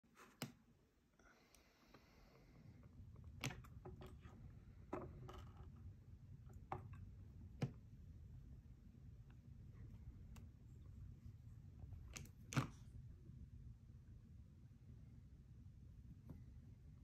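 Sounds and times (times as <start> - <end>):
faint low hum: 0.1 - 17.0.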